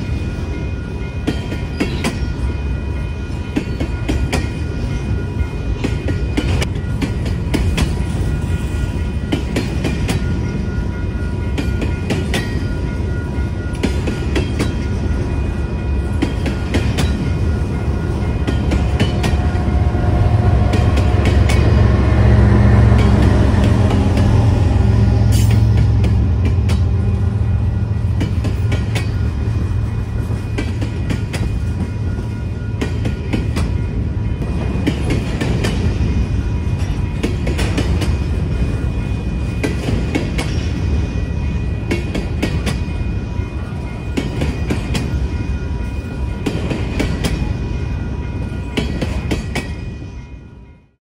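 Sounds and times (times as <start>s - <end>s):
train rumble: 0.0s - 51.0s
train wheels clickety-clack: 0.0s - 51.0s.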